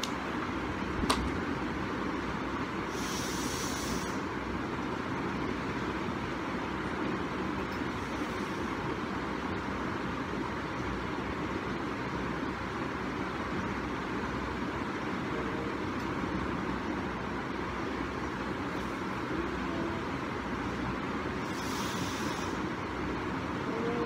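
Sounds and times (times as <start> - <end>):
steady background hum and hiss: 0.0 - 24.0.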